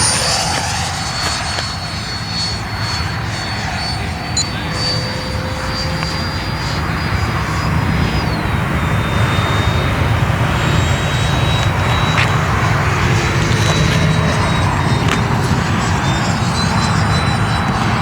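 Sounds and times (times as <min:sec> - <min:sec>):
model jet fan rushing with whine: 0:00.0 - 0:18.0.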